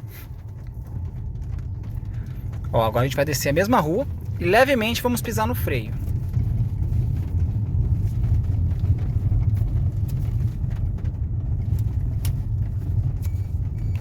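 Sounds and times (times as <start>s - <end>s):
low road rumble: 0.0s - 14.0s.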